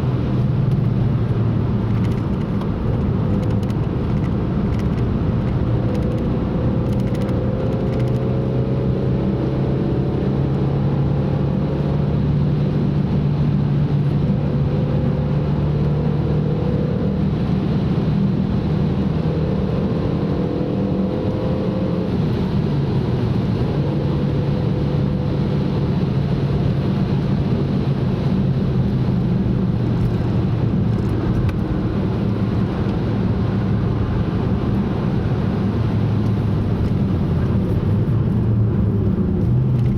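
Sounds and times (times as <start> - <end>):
car engine accelerating: 0.0 - 39.9
road and tyre noise: 0.0 - 39.9.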